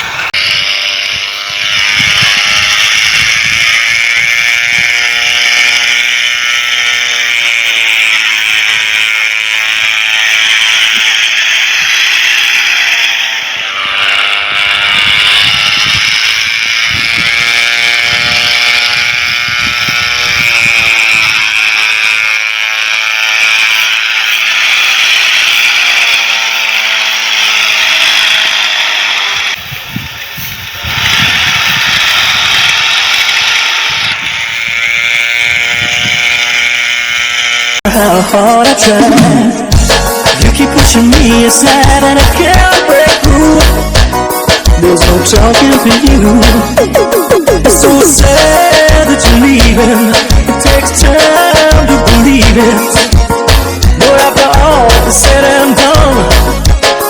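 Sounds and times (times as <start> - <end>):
toy airplane buzzing rattle: 0.0 - 57.0.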